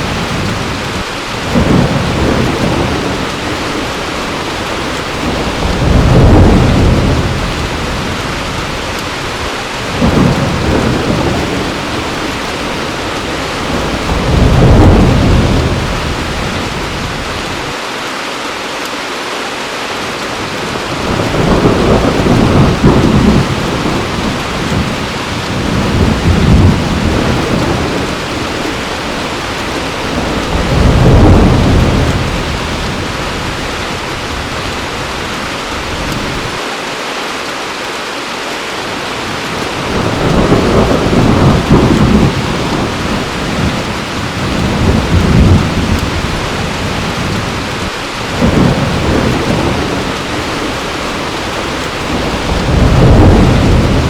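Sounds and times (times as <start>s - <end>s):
rolling thunder: 0.0s - 17.7s, 20.4s - 36.6s, 39.2s - 54.0s
heavy rain pouring: 0.0s - 54.0s.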